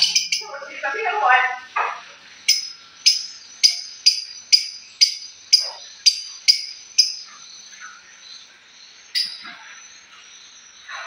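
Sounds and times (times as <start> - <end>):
parrot chirping: 0.0 - 9.9.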